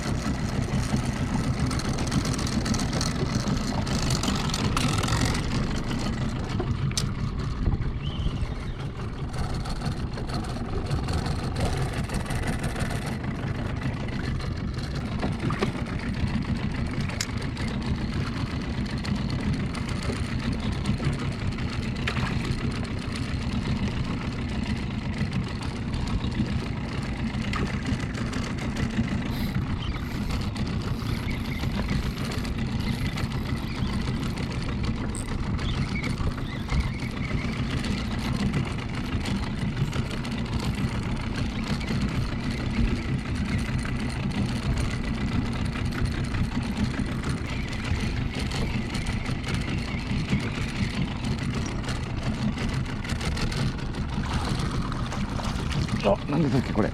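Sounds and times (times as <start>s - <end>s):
outboard motor running: 0.0s - 56.9s.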